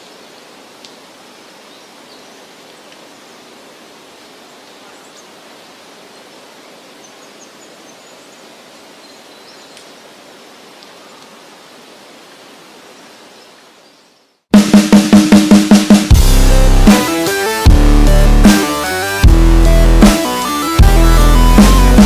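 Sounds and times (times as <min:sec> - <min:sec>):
outdoor ambient hiss: 0:00.0 - 0:22.0.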